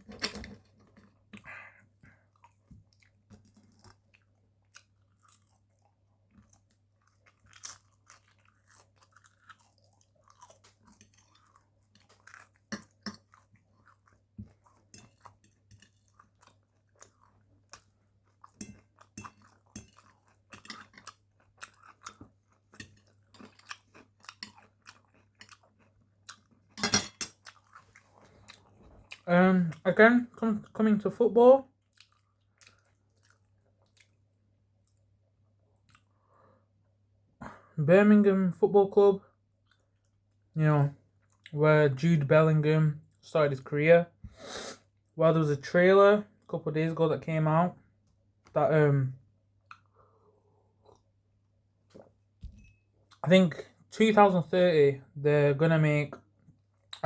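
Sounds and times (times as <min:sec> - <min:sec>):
chewing and crunching food: 0:00.0 - 0:37.7, 0:39.2 - 0:41.6, 0:49.2 - 0:54.4, 0:56.2 - 0:57.0.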